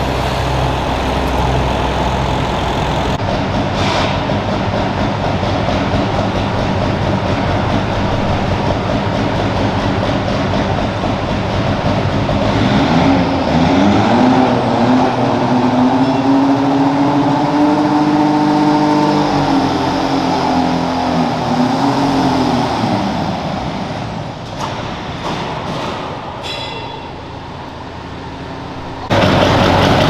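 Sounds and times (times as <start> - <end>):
tractor engine running hard: 0.0 - 26.4, 27.3 - 30.0.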